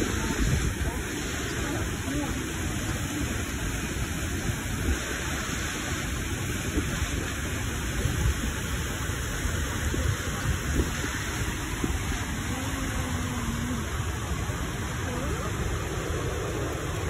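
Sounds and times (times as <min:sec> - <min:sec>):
low uneven rumble: 0:00.0 - 0:17.0
waterfall roaring: 0:00.0 - 0:17.0.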